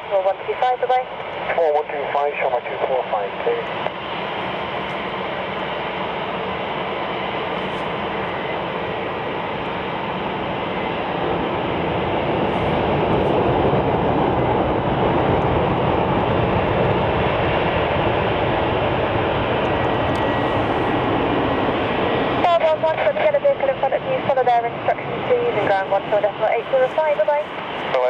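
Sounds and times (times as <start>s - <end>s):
jet landing rumble: 0.0s - 28.0s.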